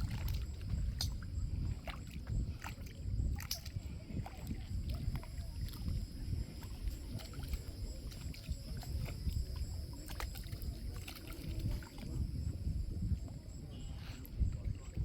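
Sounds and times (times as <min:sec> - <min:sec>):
small clicks and splashes: 0:00.0 - 0:15.0
water lapping in small waves: 0:00.0 - 0:15.0.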